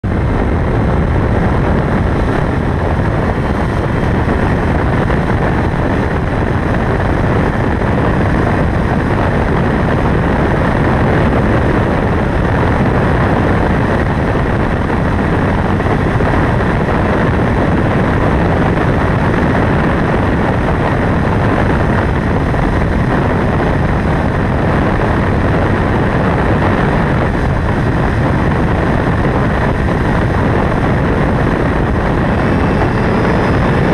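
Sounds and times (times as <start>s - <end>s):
heavy rush of noise: 0.0s - 33.9s
motorcycle engine running: 0.0s - 33.9s.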